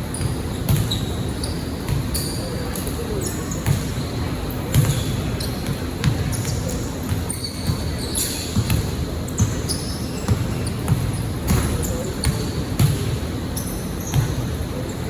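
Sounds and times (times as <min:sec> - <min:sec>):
sneaker squeaks: 0:00.0 - 0:15.0
basketball bouncing on gym floor: 0:00.1 - 0:02.2, 0:03.1 - 0:04.1, 0:04.7 - 0:13.4, 0:14.1 - 0:14.6.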